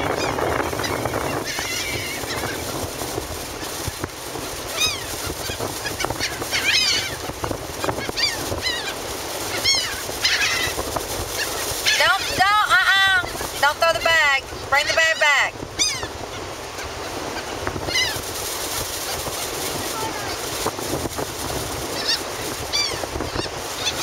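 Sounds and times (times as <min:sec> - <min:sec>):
laughing gulls calling: 0:00.0 - 0:04.0, 0:04.6 - 0:18.3, 0:19.0 - 0:20.6, 0:21.8 - 0:24.0
surf: 0:00.0 - 0:24.0
wind: 0:00.0 - 0:24.0.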